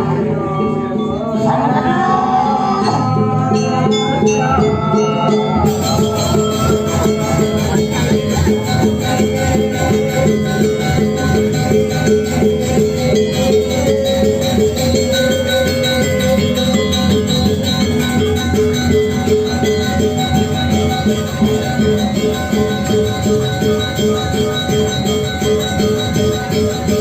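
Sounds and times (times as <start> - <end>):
gamelan metal percussion: 0.0 - 27.0.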